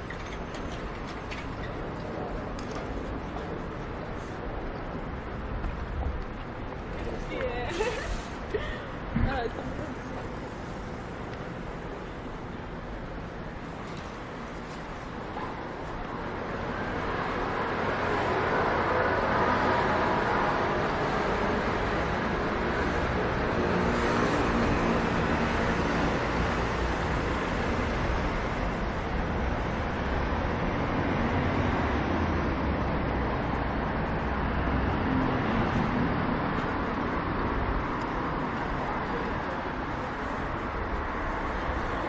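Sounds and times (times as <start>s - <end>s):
passing traffic noise: 0.0s - 42.0s.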